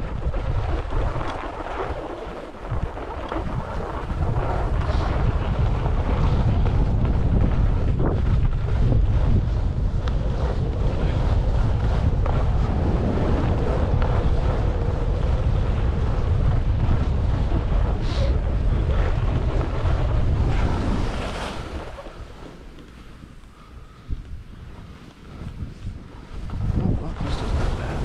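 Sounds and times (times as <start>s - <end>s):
skis scraping on snow: 0.0s - 28.0s
wind buffeting microphone: 0.0s - 28.0s.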